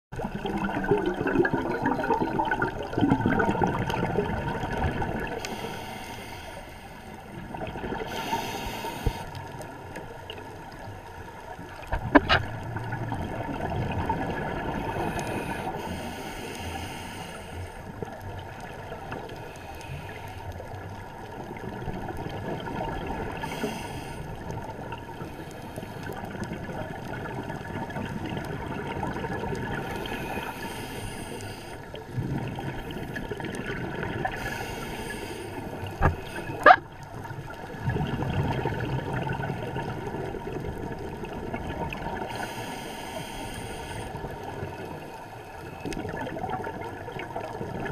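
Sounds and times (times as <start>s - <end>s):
muffled underwater rumble: 0.1s - 47.9s
scuba regulator bubbling exhaust: 0.2s - 47.9s.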